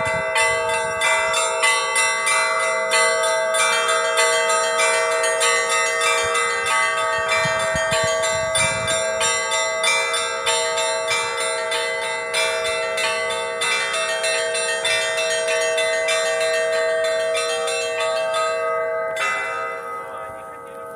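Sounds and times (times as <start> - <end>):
church bells pealing: 0.0 - 20.9
larger bells ringing: 0.0 - 20.9.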